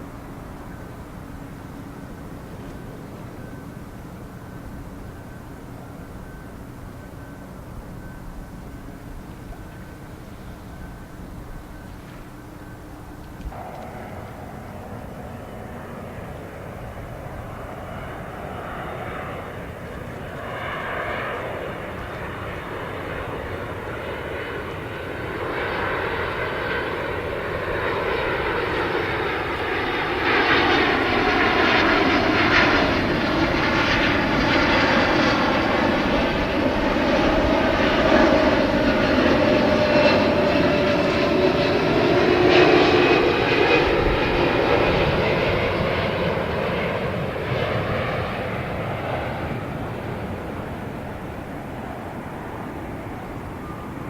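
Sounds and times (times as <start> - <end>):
jet airliner engines: 0.0 - 54.0.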